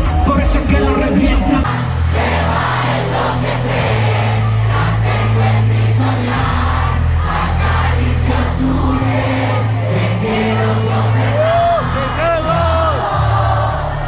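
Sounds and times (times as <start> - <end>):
crowd singing along: 0.0 - 14.0
reggaeton music over sound system: 0.0 - 14.0.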